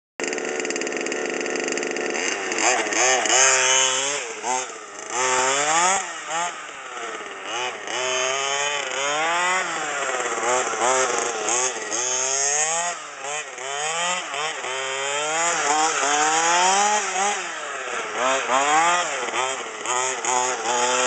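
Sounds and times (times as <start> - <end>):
rc car engine revving: 0.2 - 21.0.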